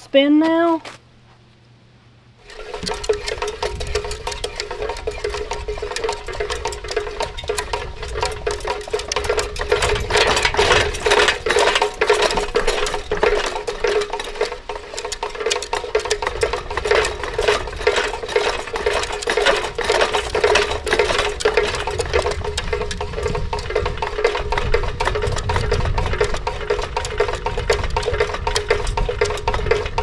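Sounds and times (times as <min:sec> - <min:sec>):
ceiling fan motor hum: 0:00.0 - 0:30.0
fan blades rattling: 0:02.4 - 0:30.0.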